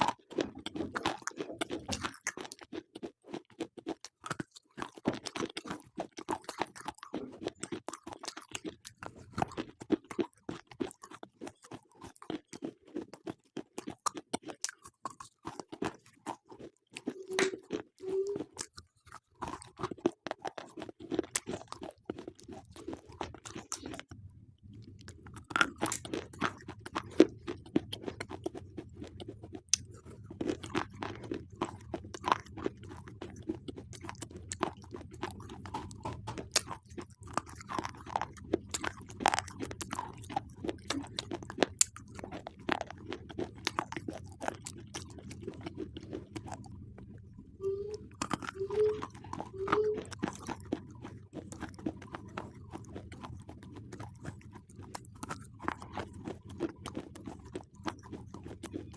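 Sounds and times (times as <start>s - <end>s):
slate pencils crunching in mouth: 0.0s - 58.9s.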